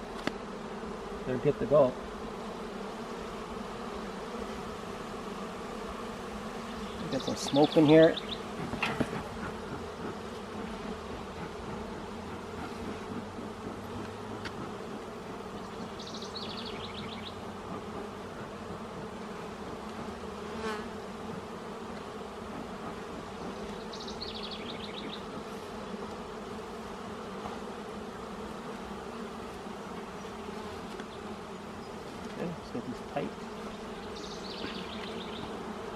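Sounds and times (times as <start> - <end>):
bees buzzing: 0.0 - 35.9.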